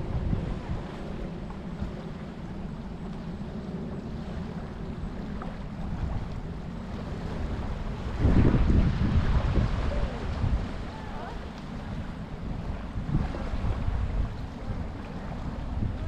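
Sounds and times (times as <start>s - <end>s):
ocean surf: 0.0s - 16.0s
wind buffeting microphone: 0.0s - 16.0s.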